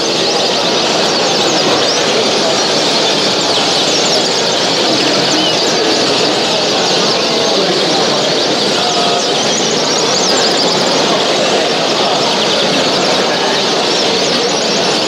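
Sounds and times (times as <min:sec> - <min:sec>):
chorus of birds chirping: 0:00.0 - 0:15.0.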